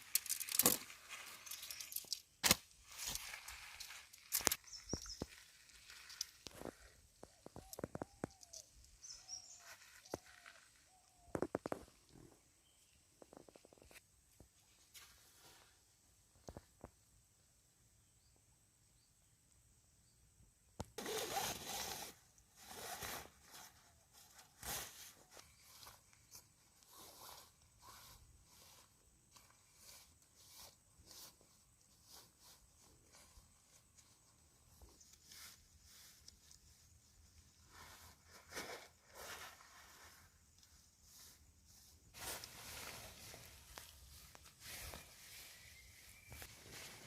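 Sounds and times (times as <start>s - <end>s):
rustling: 0.0s - 12.5s, 21.0s - 47.0s.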